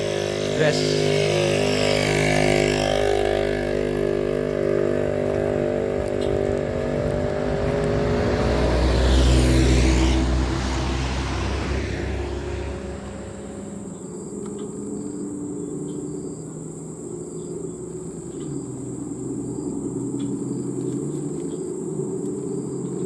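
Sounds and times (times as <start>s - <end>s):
truck diesel engine rumbling past: 0.0s - 21.6s.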